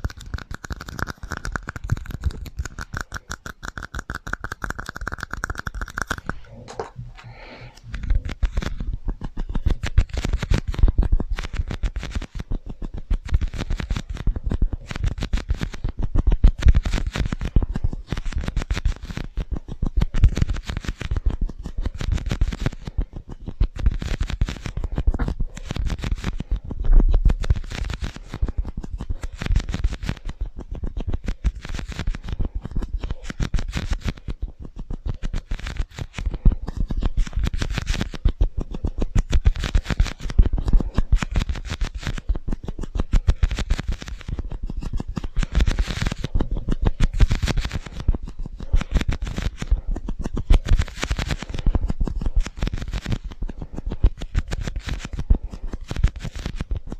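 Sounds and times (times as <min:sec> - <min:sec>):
tapping and scratching on cups: 0:00.0 - 0:56.9.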